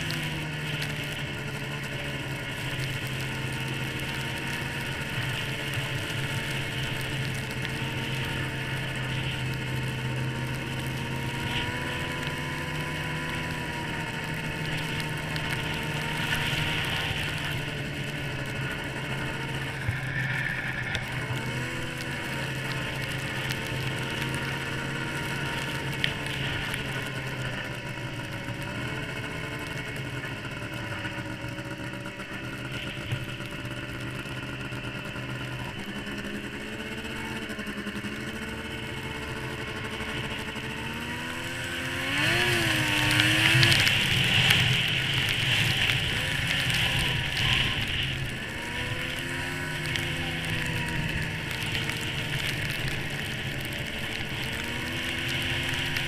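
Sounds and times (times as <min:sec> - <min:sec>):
muffled snowmobile engine revving: 0:00.0 - 0:56.0.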